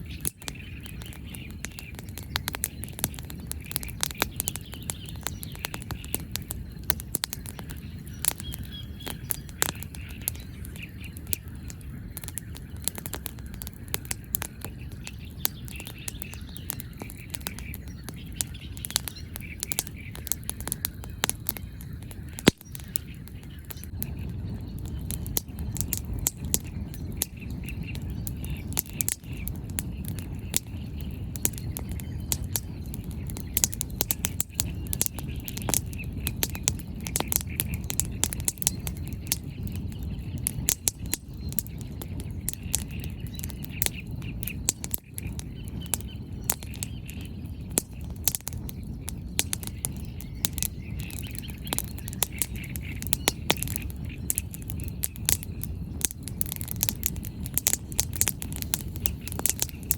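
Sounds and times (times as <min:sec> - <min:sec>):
birds chirping faintly: 0:00.0 - 0:59.9
bonfire crackling and popping: 0:00.0 - 0:59.9
fire low rush: 0:09.2 - 0:46.6, 0:47.2 - 0:59.9.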